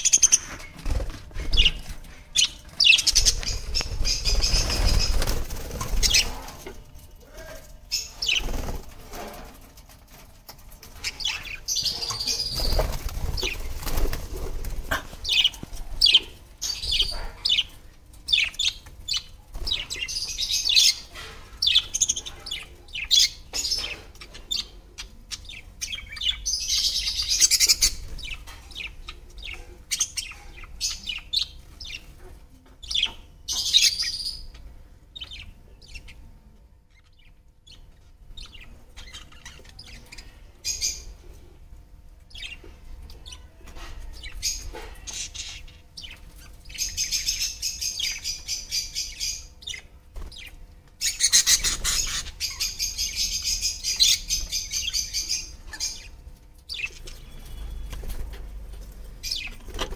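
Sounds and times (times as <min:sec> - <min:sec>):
budgerigars chirping and chattering: 0:00.0 - 0:36.3, 0:36.9 - 0:41.4, 0:42.3 - 0:59.9.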